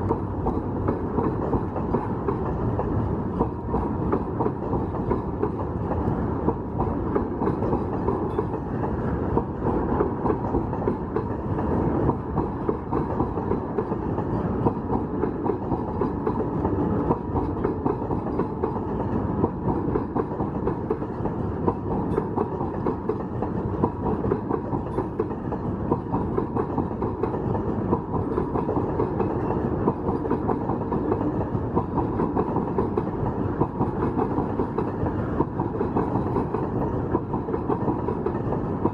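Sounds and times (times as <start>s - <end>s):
wheels clacking over rail joints: 0.0s - 38.9s
wheels rumbling on rail: 0.0s - 38.9s.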